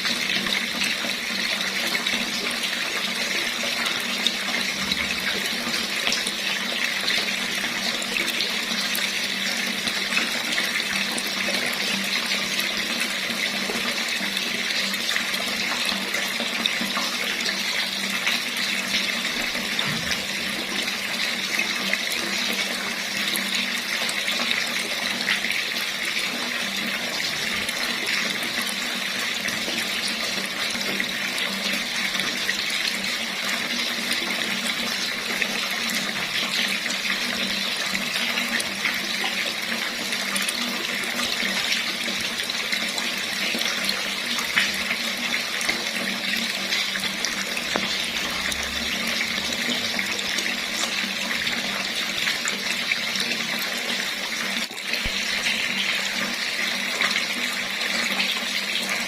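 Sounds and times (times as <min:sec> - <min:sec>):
tap water running: 0:00.0 - 0:59.0.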